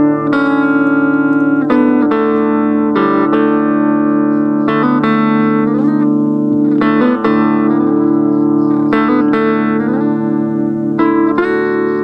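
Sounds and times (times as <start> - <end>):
low guitar drone: 0.0 - 12.0
plucked guitar notes: 0.0 - 12.0.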